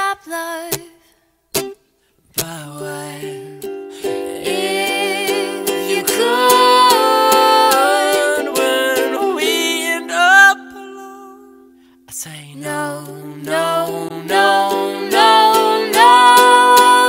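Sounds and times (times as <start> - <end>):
strummed ukulele: 0.6 - 0.9, 1.5 - 11.9, 12.6 - 17.0
wordless sung harmony: 2.4 - 17.0.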